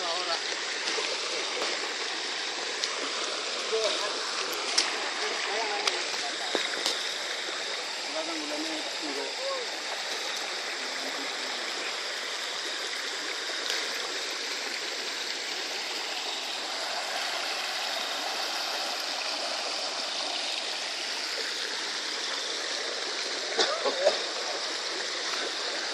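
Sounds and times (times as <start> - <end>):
creek water flowing: 0.0 - 25.9.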